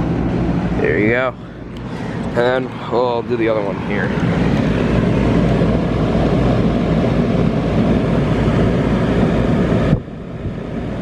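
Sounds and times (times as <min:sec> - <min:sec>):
compressor hum: 0:00.0 - 0:11.0
fan rushing: 0:00.0 - 0:11.0.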